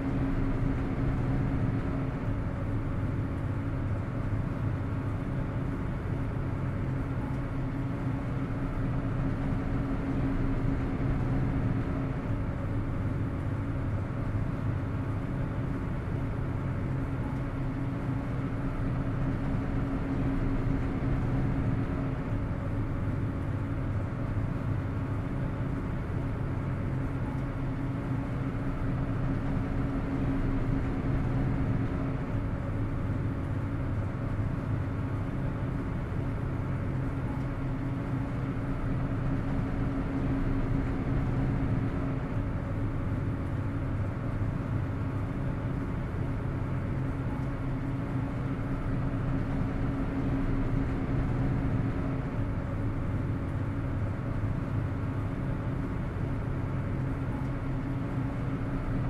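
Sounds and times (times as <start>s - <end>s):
ferry engines droning: 0.0s - 59.0s.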